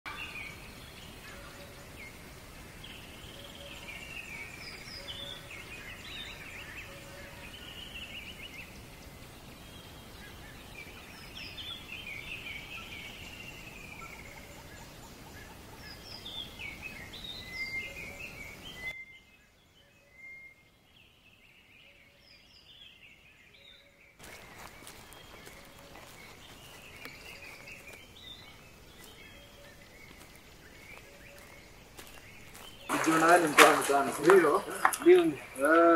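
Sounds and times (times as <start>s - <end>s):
birds chirping and calling: 0.1s - 19.0s, 23.6s - 35.9s
steady background hiss: 0.1s - 35.9s.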